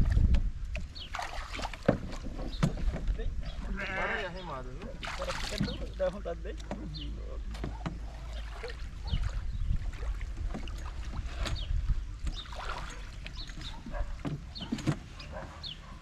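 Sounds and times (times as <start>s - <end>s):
plastic boat knocking and bumping: 0.0s - 3.4s, 4.8s - 15.4s
wind rumble on microphone: 0.0s - 5.9s, 7.0s - 15.7s.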